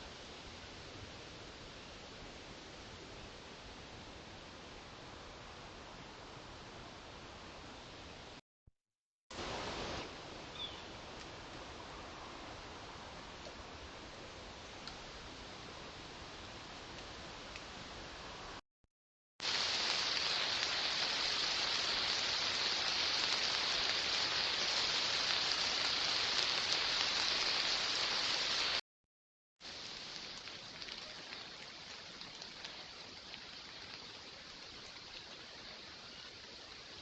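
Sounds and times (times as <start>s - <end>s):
steady rain-like hiss: 0.0s - 8.4s, 9.3s - 18.6s, 19.4s - 28.8s, 29.6s - 37.0s.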